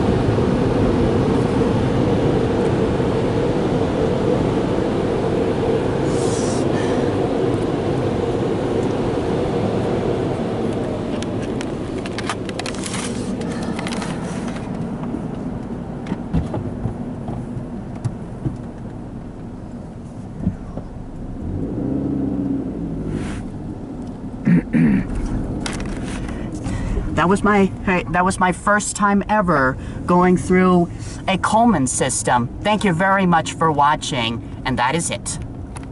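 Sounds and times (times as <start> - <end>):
car cabin rumble: 0.0 - 35.9.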